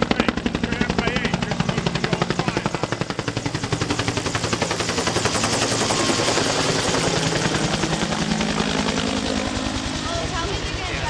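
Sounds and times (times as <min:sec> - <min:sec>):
helicopter rotor beating: 0:00.0 - 0:11.0.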